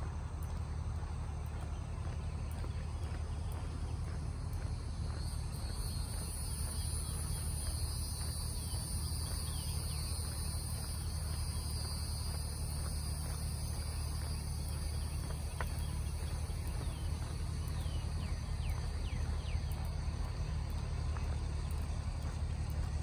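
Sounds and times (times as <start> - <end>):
insects trilling: 0.4 - 23.0.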